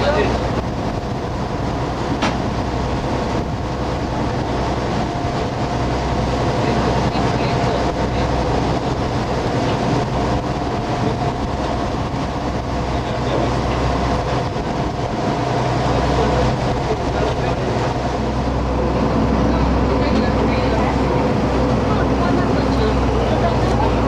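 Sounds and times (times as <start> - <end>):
motor boat engine drone: 0.0 - 24.0.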